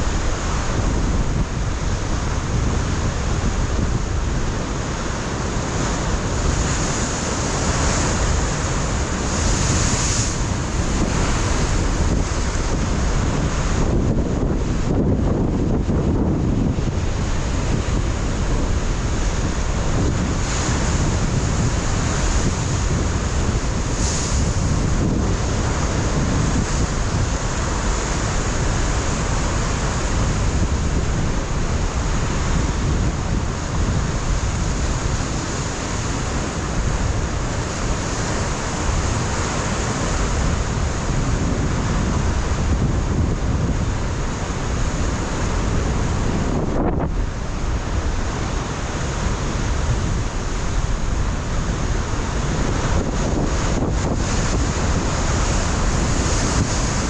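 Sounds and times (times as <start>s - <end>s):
ocean surf on rocky shore: 0.0s - 57.0s
wind buffeting microphone: 0.0s - 57.0s.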